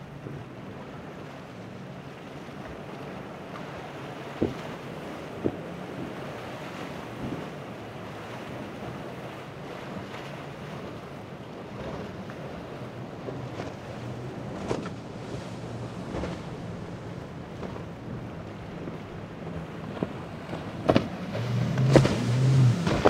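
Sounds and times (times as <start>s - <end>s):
powerboat engines droning: 0.0s - 23.0s
surf: 0.0s - 23.0s
wind on microphone: 4.3s - 23.0s.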